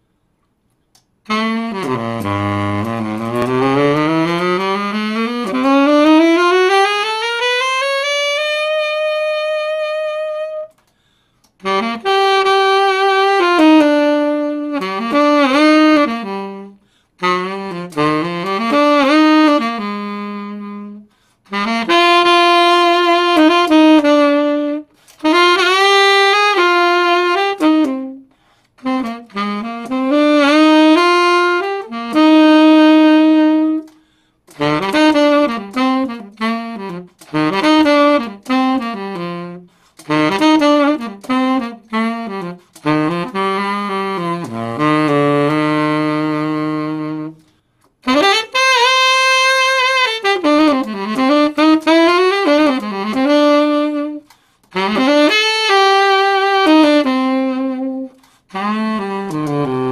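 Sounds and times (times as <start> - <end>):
tenor saxophone solo: 0.9 - 59.9.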